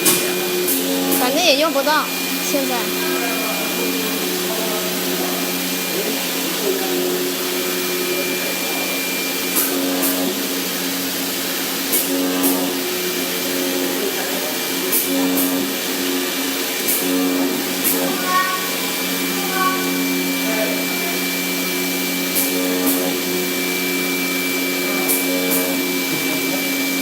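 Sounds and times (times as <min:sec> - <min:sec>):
blower hissing: 0:00.0 - 0:27.0
motor tones changing pitch: 0:00.0 - 0:27.0.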